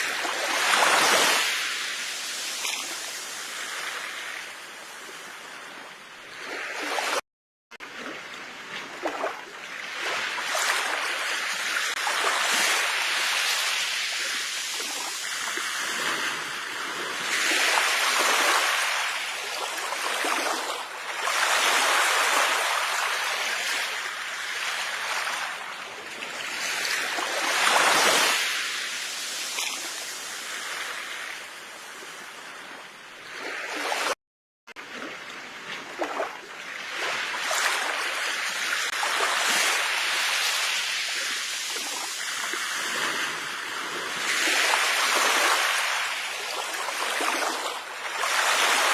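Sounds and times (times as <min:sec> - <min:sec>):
sea waves washing onto shore: 0:00.0 - 0:07.2, 0:07.8 - 0:34.2, 0:34.8 - 0:48.9.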